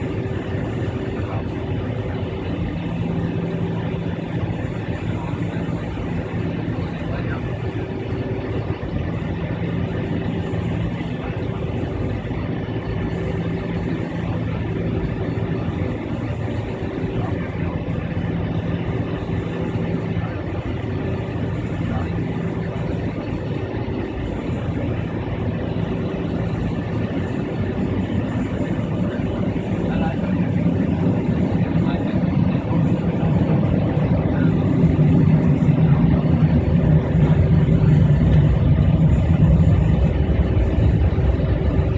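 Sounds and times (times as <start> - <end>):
aircraft cabin engine drone: 0.0 - 41.9.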